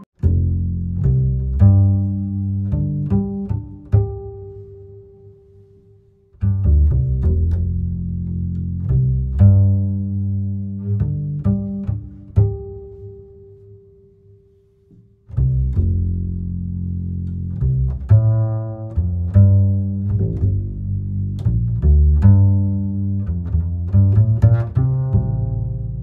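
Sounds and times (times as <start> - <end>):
low bowed and plucked strings: 0.0 - 26.0.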